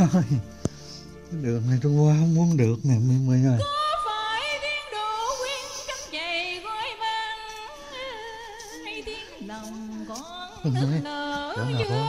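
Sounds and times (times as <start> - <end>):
slow song: 0.0 - 12.0.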